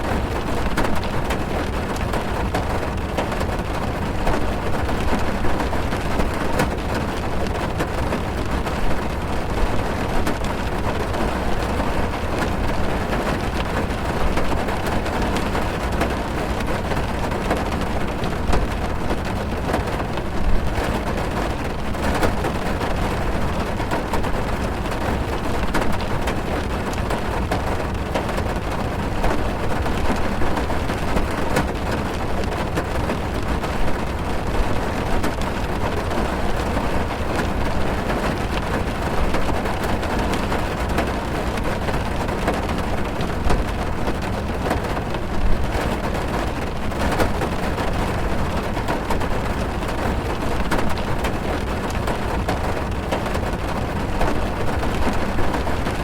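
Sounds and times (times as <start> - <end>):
heavy rain drumming on car roof: 0.0 - 56.0.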